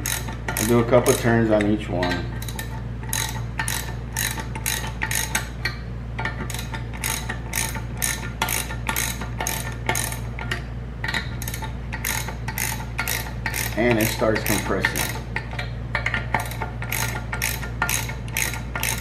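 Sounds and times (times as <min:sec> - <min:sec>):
ratchet wrench clicking: 0:00.0 - 0:19.0.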